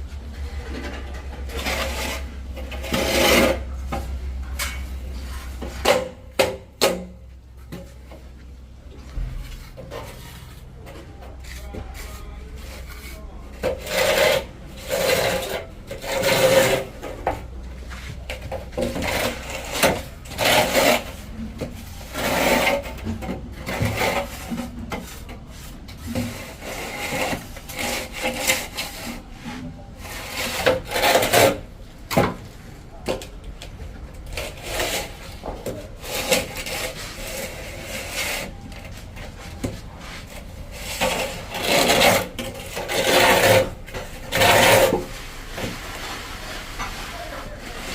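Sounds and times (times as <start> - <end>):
hand tool scraping plaster: 0.4 - 4.0, 9.2 - 32.4, 34.1 - 47.9.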